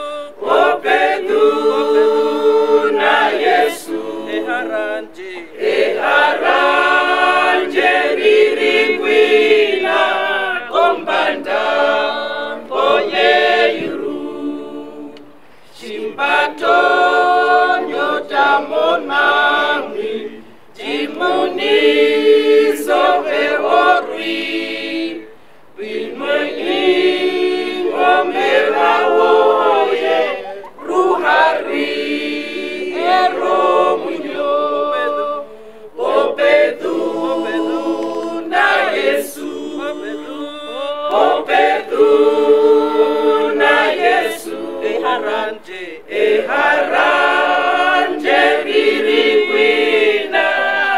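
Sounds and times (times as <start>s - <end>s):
choir singing unaccompanied: 0.0s - 50.9s.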